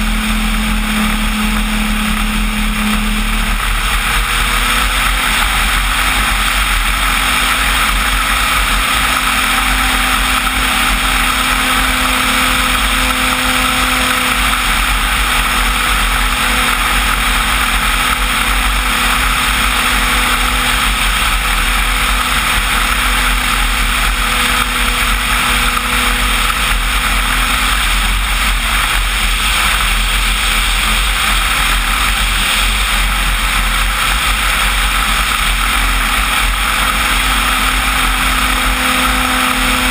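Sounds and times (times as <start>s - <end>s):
airflow and propeller noise: 0.0s - 39.9s.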